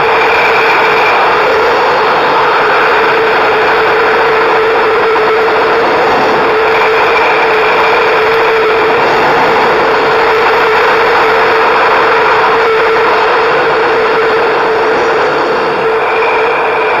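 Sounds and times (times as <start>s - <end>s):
constant hum: 0.0s - 17.0s
wind rushing over microphone: 0.0s - 17.0s.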